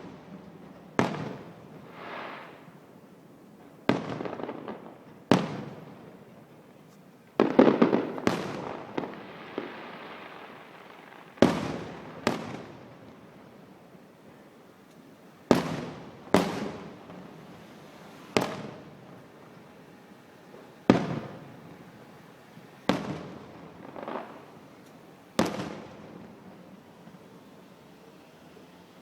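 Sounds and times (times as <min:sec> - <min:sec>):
fireworks booming: 0:00.0 - 0:28.1.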